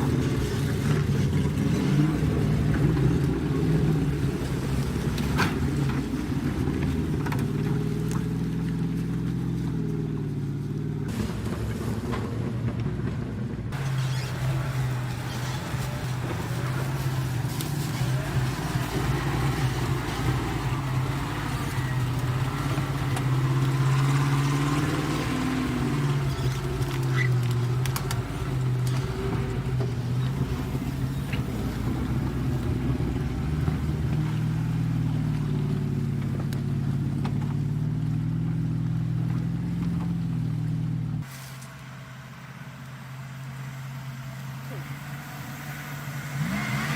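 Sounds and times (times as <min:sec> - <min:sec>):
road noise rumbling: 0:00.0 - 0:46.9
vehicle engine droning: 0:00.0 - 0:46.9.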